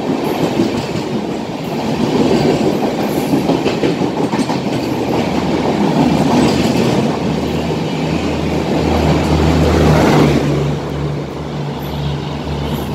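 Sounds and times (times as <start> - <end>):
train wheels rumbling and clattering: 0.0 - 12.9.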